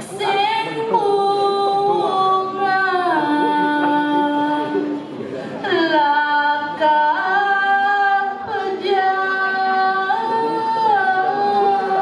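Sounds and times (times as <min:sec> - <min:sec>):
woman singing unaccompanied: 0:00.0 - 0:05.0, 0:05.7 - 0:12.0.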